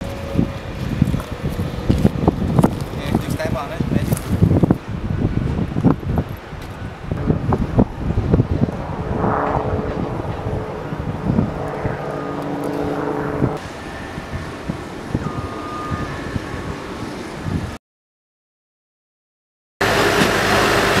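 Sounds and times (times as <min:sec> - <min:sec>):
steady engine hum: 0:00.0 - 0:17.8
wind on microphone: 0:00.0 - 0:17.8.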